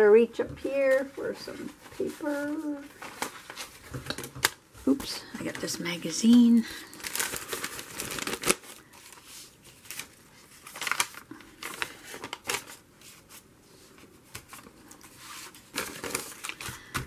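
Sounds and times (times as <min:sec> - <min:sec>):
paper rustling: 0:00.8 - 0:17.0.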